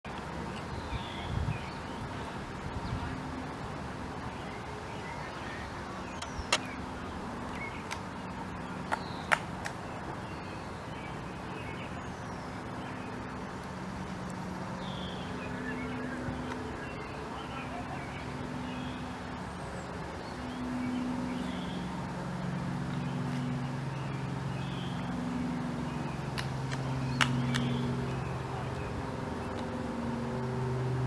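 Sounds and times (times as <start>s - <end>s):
distant traffic hum: 0.1s - 31.0s.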